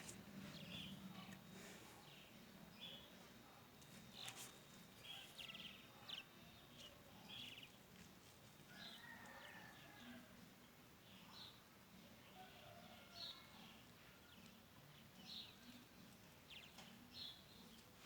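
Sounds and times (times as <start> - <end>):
faint birdsong: 0.0 - 18.0.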